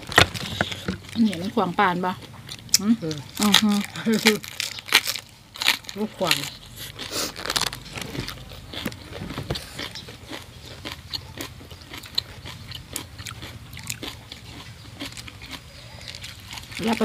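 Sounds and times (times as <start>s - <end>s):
crunching raw cabbage leaf: 2.6s - 17.0s.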